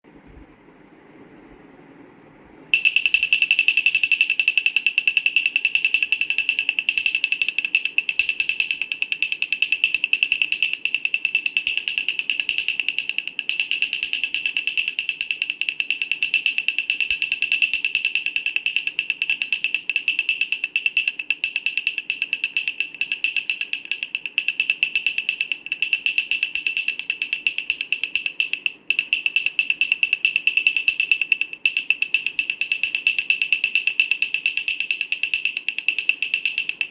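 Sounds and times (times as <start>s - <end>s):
wooden rattle shaken: 2.8s - 36.9s.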